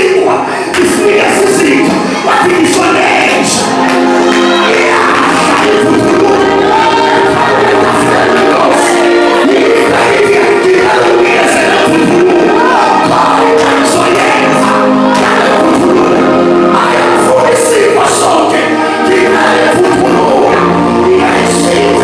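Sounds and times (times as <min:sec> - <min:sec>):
group singing gospel song: 0:00.0 - 0:22.0
musical accompaniment: 0:00.0 - 0:22.0.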